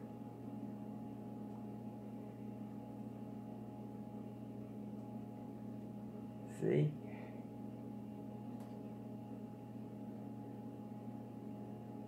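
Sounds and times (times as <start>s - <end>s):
low hum with held tones: 0.0s - 12.0s.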